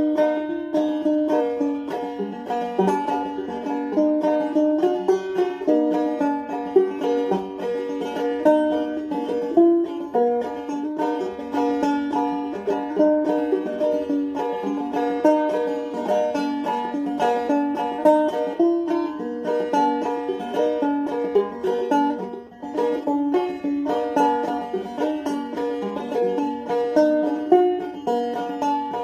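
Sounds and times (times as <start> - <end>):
banjo picking: 0.0 - 29.0.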